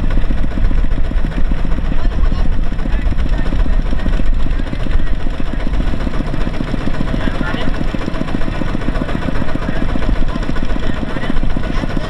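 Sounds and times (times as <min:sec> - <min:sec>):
heavy machine engine pulsing: 0:00.0 - 0:12.0.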